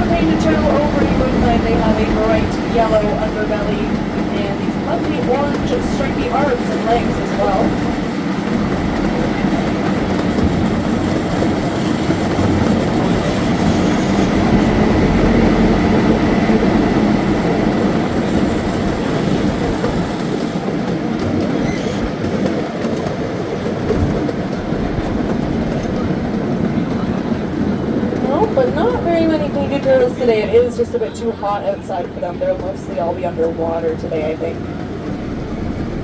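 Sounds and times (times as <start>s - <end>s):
miniature train rumbling and rattling: 0.0s - 36.0s.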